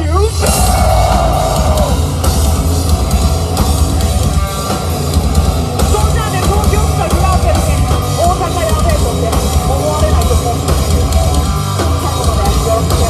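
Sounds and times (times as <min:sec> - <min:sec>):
distorted electric guitars: 0:00.0 - 0:13.0
drum kit: 0:00.2 - 0:13.0.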